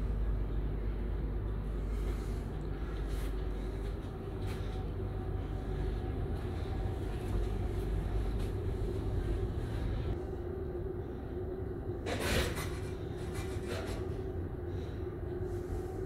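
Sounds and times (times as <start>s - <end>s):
ferry machinery rumble: 0.0s - 16.0s.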